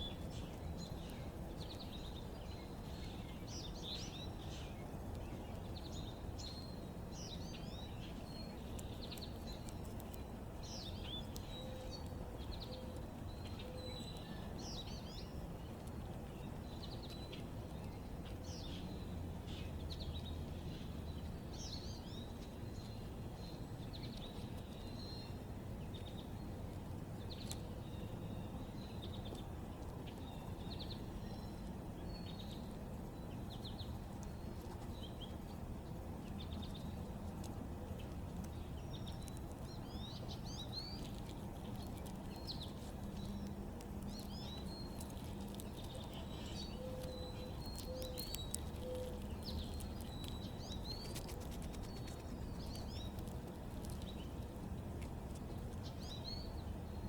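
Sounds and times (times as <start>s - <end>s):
low background rumble: 0.0s - 57.0s
small birds chirping: 0.0s - 57.0s.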